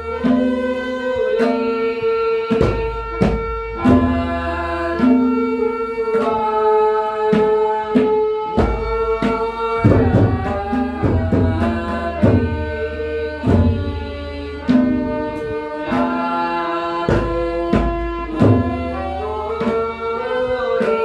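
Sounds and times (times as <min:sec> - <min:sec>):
tabla strokes: 0:00.0 - 0:21.0.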